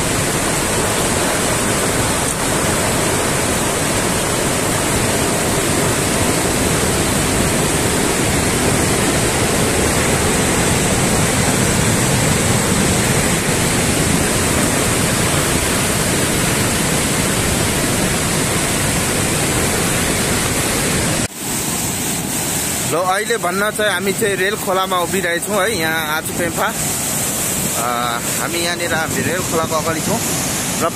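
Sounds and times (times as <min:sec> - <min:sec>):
heavy rain rushing hiss: 0:00.0 - 0:30.9.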